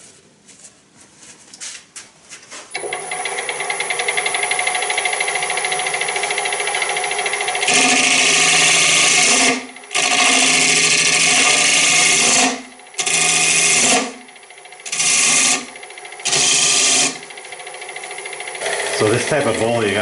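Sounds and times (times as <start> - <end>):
turning tool cutting wood: 2.8 - 20.0
wood lathe running: 2.8 - 20.0.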